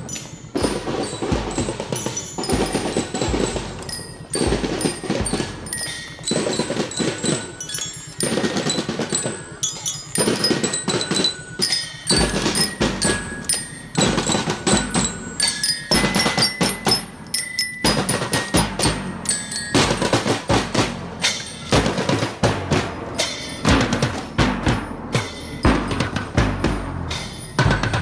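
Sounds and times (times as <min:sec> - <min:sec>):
bell lyres ringing a tune: 0:00.0 - 0:28.0
snare and bass drums: 0:00.0 - 0:28.0.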